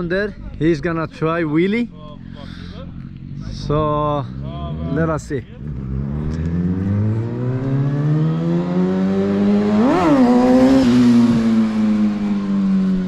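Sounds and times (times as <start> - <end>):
motorcycle engine revving: 1.4 - 13.0.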